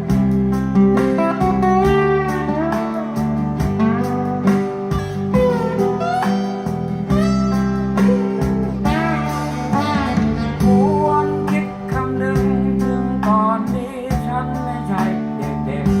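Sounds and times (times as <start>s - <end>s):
song with guitar and singing: 0.0s - 16.0s.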